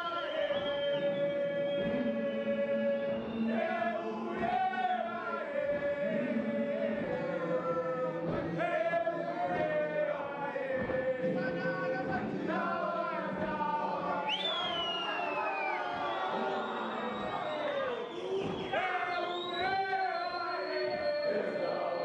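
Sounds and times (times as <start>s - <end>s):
boys choir singing a hymn: 0.0s - 22.0s.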